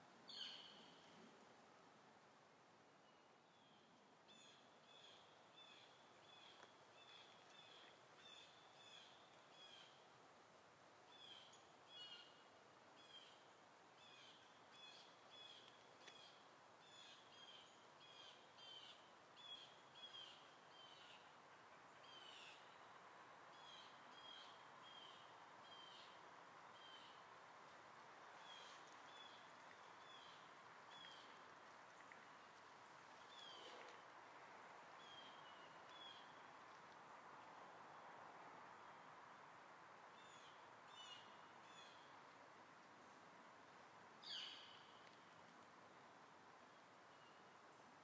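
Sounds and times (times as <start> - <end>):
quiet background hiss: 0.0 - 48.0.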